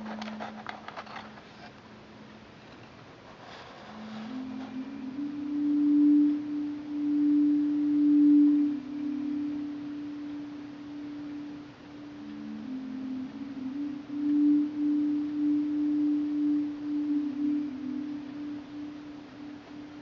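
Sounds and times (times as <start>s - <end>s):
meditative music of sustained low tones: 0.0s - 2.6s, 3.3s - 20.0s.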